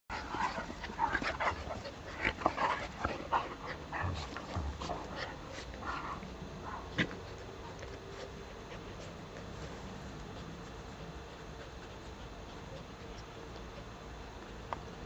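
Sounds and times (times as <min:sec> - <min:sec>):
dogs play-fighting noises: 0:00.1 - 0:15.0.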